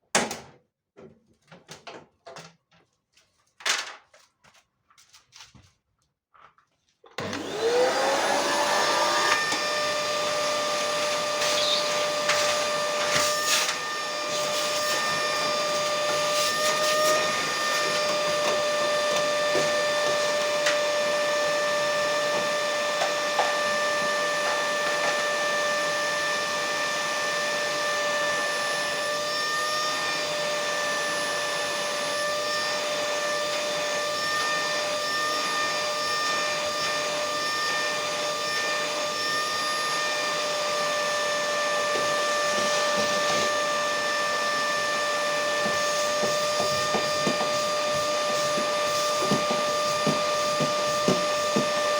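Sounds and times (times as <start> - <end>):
electric motor whine: 7.2 - 51.9.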